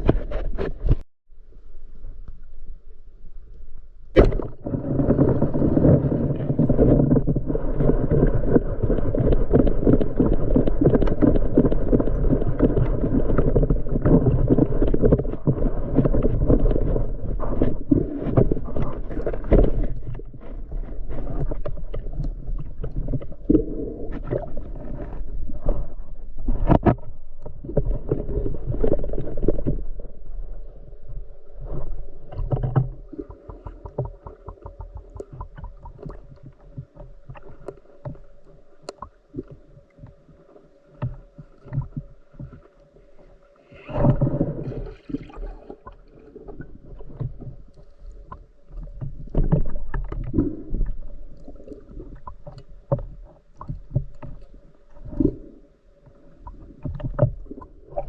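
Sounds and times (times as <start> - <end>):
muffled underwater rushing: 4.0 - 58.0.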